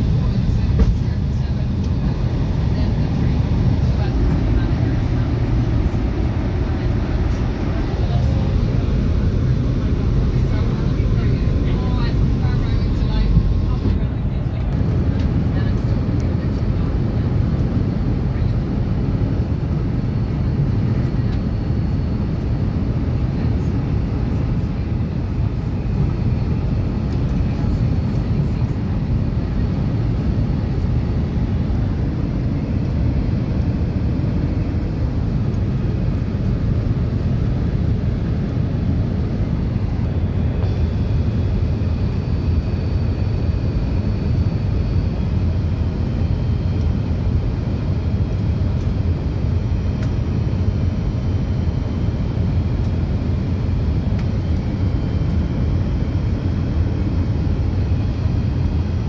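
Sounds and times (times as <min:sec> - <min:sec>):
airplane engines roaring in cabin: 0:00.0 - 0:59.0.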